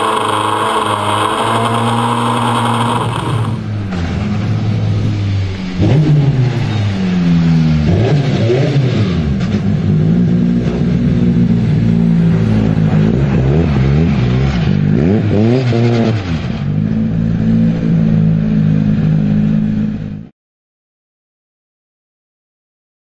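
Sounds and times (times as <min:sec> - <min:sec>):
race car engine revving: 0:00.0 - 0:20.2.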